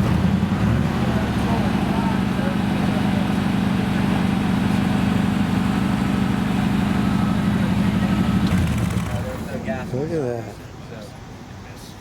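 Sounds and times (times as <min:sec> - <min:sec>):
pickup truck engine droning: 0:00.0 - 0:10.3.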